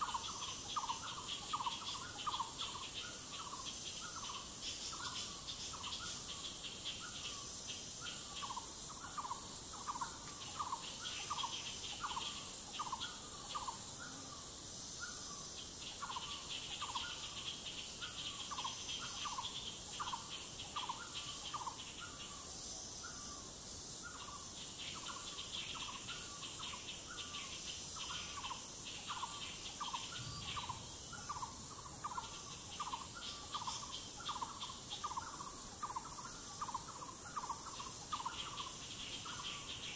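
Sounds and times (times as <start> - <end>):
high-pitched insect drone: 0.0 - 39.9
pulsing insect trills: 0.0 - 39.9.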